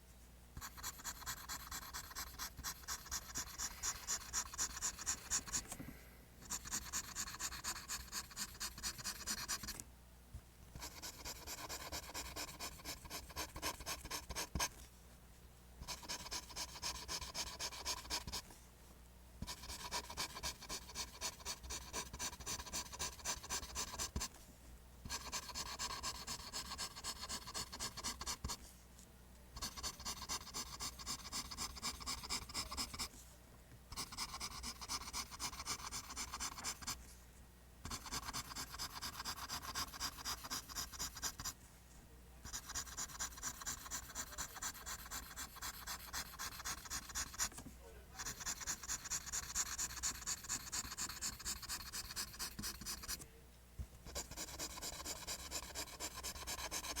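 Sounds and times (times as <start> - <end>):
pencil scratching on paper: 0.6 - 5.8, 6.4 - 9.8, 10.8 - 14.8, 15.8 - 18.4, 19.4 - 24.4, 25.1 - 28.6, 29.6 - 33.1, 33.9 - 37.0, 37.9 - 41.6, 42.5 - 47.6, 48.2 - 53.2, 54.1 - 57.0.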